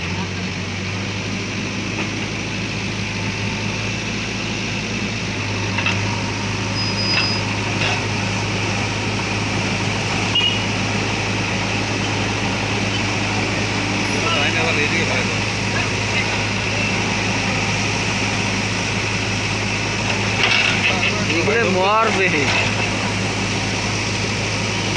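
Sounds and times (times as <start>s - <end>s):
vehicle engine idling: 0.0s - 24.9s.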